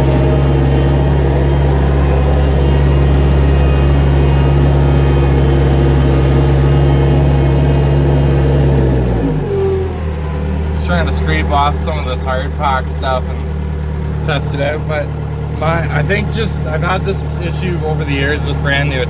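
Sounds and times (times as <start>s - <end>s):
skid steer engine running: 0.0s - 19.0s.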